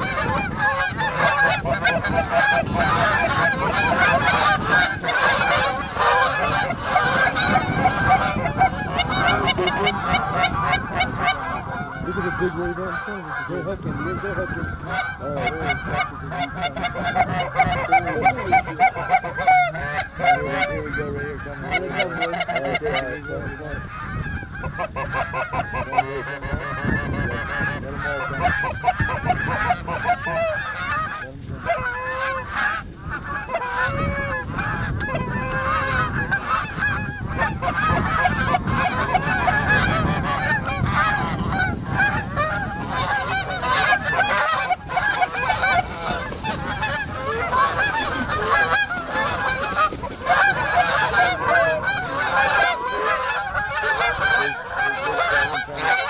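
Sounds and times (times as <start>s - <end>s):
flock of geese honking: 0.0s - 56.0s.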